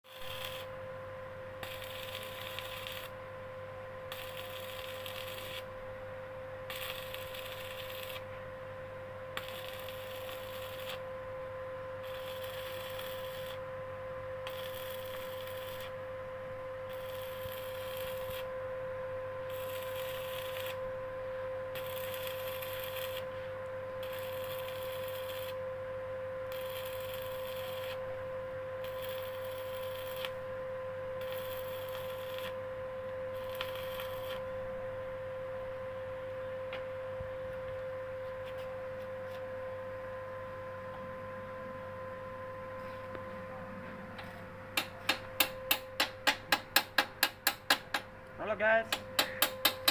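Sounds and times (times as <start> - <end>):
machine hum with high whine: 0.0 - 49.9.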